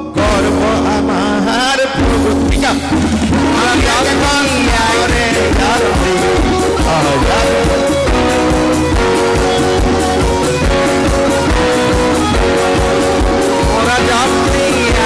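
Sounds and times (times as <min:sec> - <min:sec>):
electric guitar: 0:00.0 - 0:15.0
drum beat: 0:02.0 - 0:15.0.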